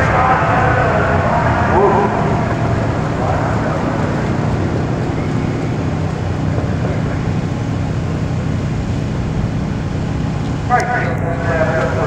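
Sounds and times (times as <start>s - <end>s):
constant hiss: 0.0s - 12.0s
engine running low: 0.0s - 12.0s.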